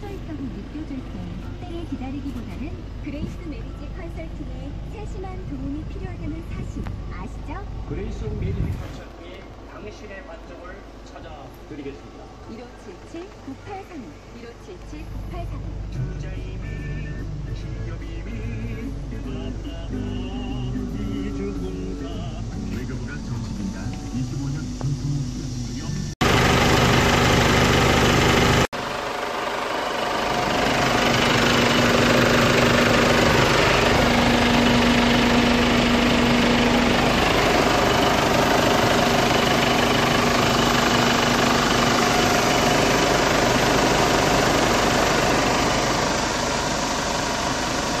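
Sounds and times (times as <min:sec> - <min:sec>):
diesel engine idling: 0:00.0 - 0:48.0.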